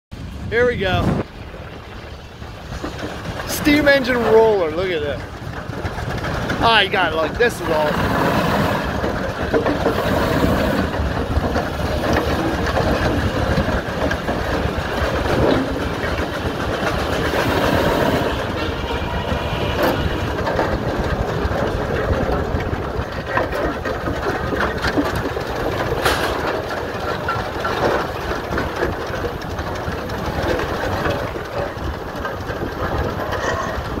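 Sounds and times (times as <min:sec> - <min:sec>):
steam roller engine clattering: 0:00.2 - 0:34.0.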